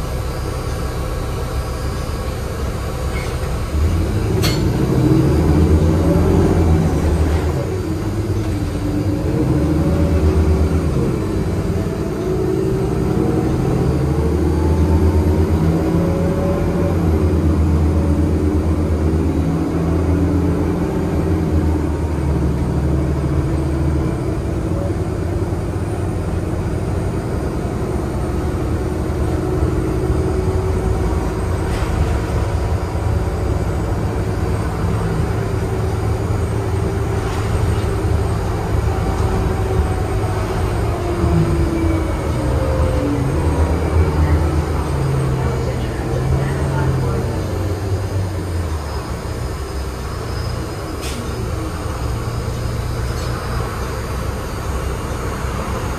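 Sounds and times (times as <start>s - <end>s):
bus engine drone: 0.0s - 55.9s.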